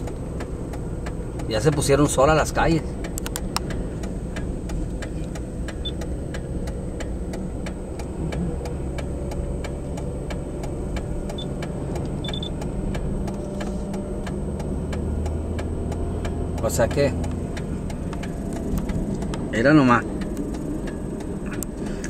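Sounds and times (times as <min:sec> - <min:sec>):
car engine and tyre hum: 0:00.0 - 0:22.0
turn signal clicking: 0:00.0 - 0:22.0.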